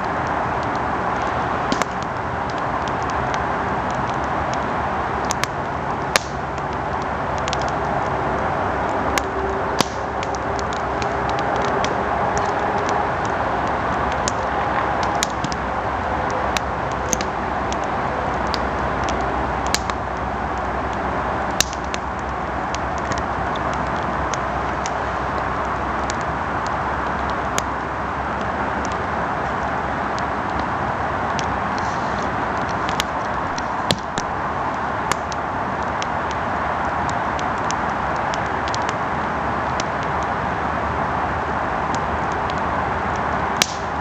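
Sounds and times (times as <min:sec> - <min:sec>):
campfire burning: 0:00.0 - 0:44.0
wood crackling and popping: 0:00.0 - 0:44.0.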